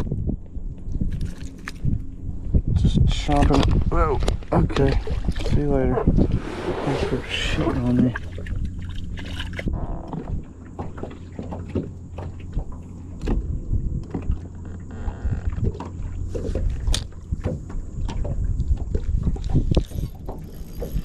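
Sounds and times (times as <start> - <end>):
knocks and clicks in boat: 0.0 - 21.0
steady low rumble: 0.0 - 21.0.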